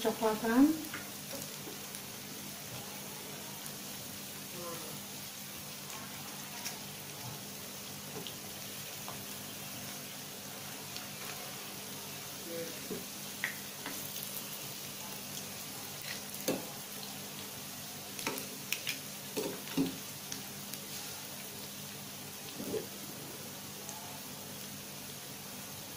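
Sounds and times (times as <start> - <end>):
chicken wings sizzling in oil: 0.0 - 25.9.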